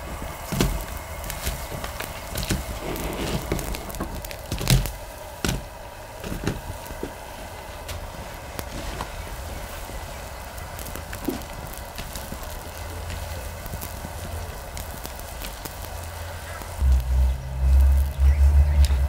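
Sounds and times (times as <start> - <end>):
broth bubbling in a pan: 0.0 - 19.0.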